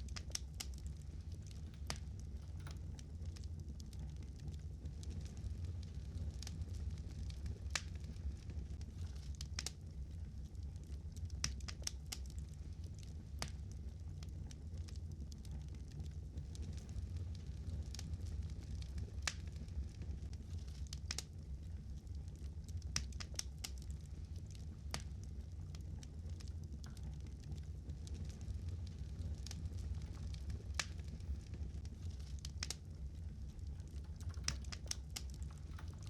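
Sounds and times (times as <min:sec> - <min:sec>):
steady low hum: 0:00.0 - 0:36.0
wood fire crackling: 0:00.0 - 0:36.0.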